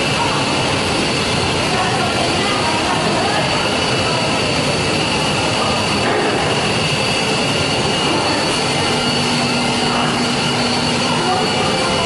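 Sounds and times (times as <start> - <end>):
conveyor machine high whine: 0.0 - 12.0.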